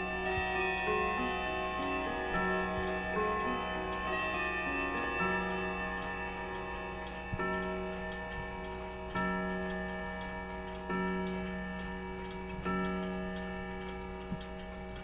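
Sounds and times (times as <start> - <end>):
clock striking low note: 0.0 - 15.0
clock ticking faintly: 0.0 - 15.0.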